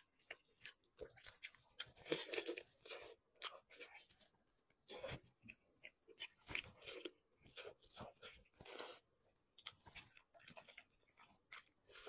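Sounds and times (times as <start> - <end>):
close chewing and mouth smacks: 0.0 - 12.0.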